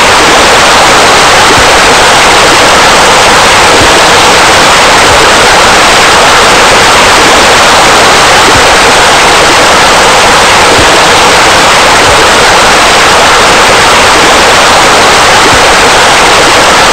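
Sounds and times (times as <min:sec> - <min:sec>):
splashing water rushing: 0:00.0 - 0:16.9.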